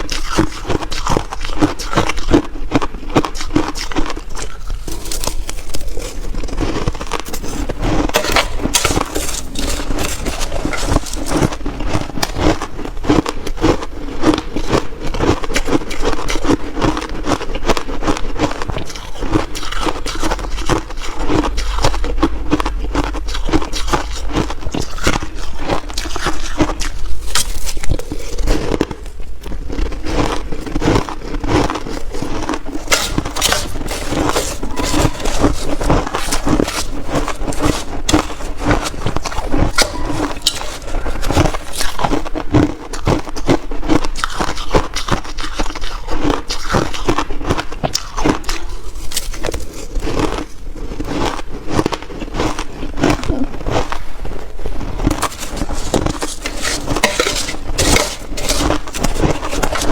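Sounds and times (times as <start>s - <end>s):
ice crunched and chewed: 0.0s - 59.9s.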